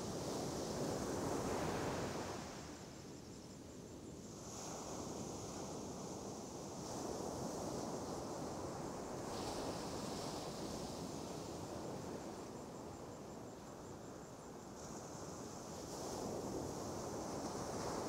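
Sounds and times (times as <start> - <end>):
surf on a sandy beach: 0.0 - 18.0.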